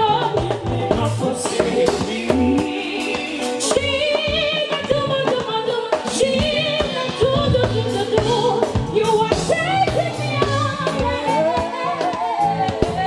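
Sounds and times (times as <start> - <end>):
lead singer singing: 0.0 - 13.0
live gospel band with drums: 0.0 - 13.0.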